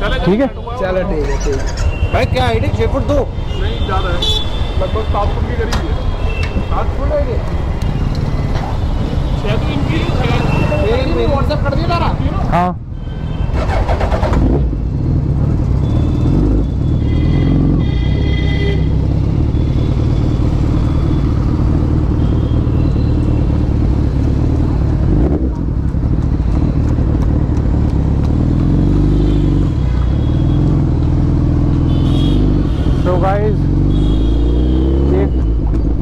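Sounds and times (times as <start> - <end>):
road traffic: 0.0 - 36.0.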